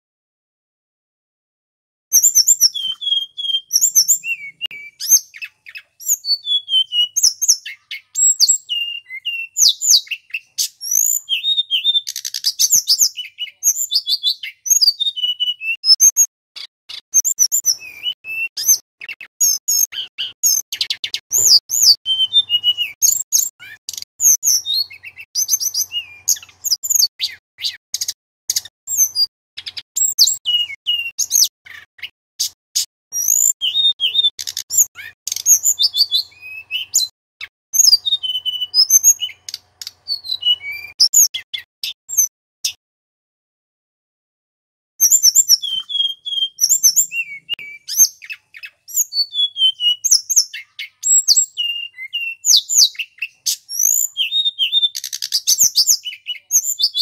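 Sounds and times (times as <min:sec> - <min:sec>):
bird singing whistled phrases: 0:02.1 - 0:42.8, 0:45.0 - 0:57.0.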